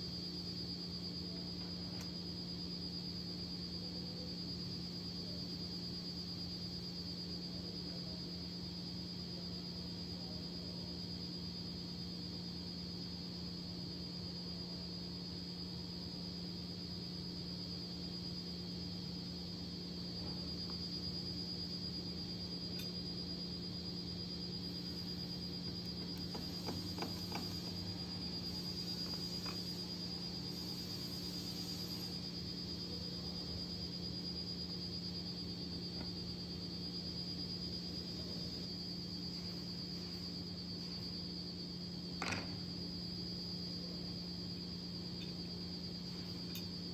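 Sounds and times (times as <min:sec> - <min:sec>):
faint high-pitched whine: 0:00.0 - 0:46.9
steady low hum: 0:00.0 - 0:46.9.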